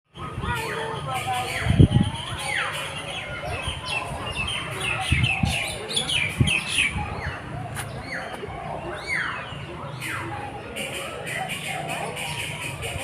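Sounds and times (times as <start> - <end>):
many birds chirping: 0.1 - 13.0.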